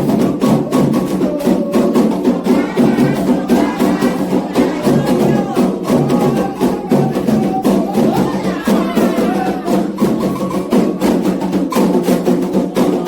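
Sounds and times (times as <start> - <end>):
hand drums playing: 0.0 - 13.0
voices singing: 0.1 - 11.6, 12.2 - 13.0.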